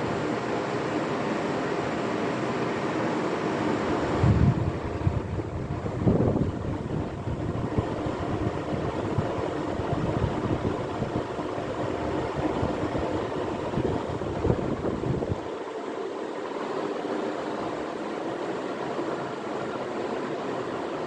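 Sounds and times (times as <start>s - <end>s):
ceiling fan electrical hum: 0.0s - 21.0s.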